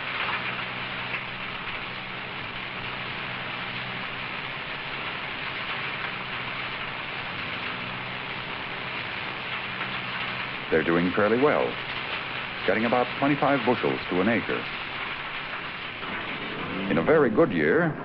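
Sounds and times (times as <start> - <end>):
grain pouring into truck bed: 0.0 - 17.7.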